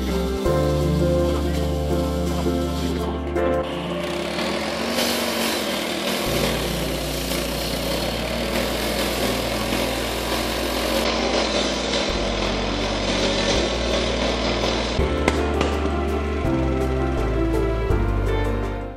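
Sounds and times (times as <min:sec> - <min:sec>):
saw blade hissing on asphalt: 0:00.0 - 0:15.4
small engine drone: 0:00.0 - 0:18.8.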